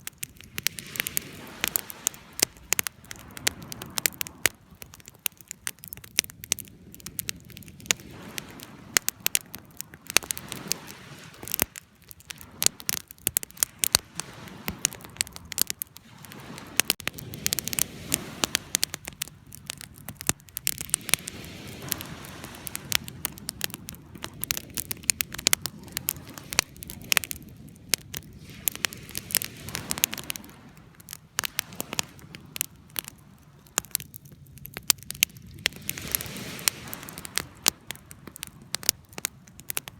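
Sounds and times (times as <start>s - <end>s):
low rush of flame: 0.0s - 39.9s
wood fire crackling and popping: 0.0s - 39.9s.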